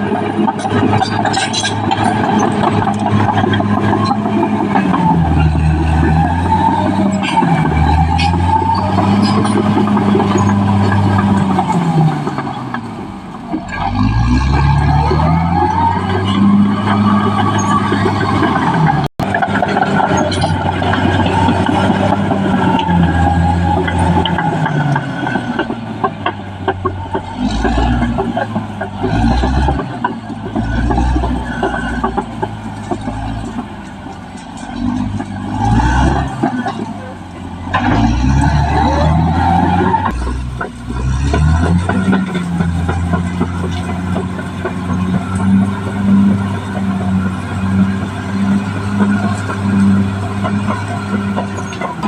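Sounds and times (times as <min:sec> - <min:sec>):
bulldozer diesel engine revving: 0:00.0 - 0:52.0
clanks and rattles: 0:00.0 - 0:52.0
engine whine rising in pitch: 0:00.0 - 0:52.0.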